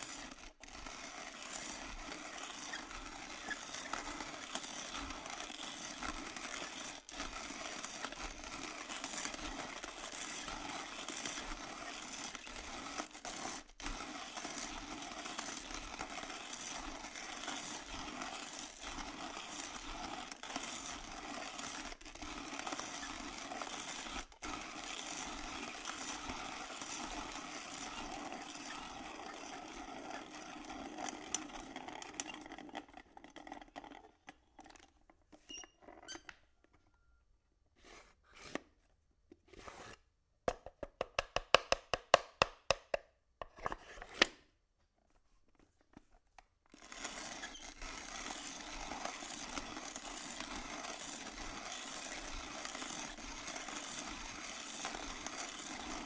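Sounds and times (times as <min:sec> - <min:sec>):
coffee grinder grinding beans: 0:00.0 - 0:36.4, 0:46.6 - 0:56.0.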